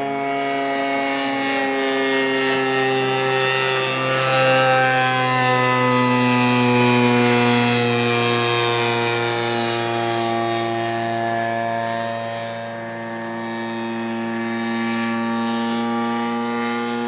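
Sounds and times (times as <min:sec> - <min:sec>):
model airplane engine buzzing: 0:00.0 - 0:17.0.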